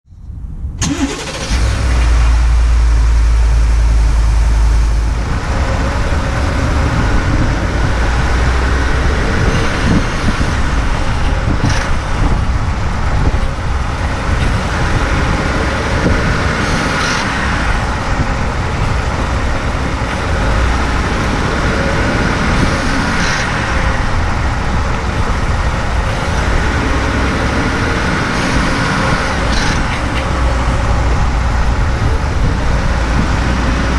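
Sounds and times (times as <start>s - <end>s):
truck engine low rumble: 0.1s - 33.9s.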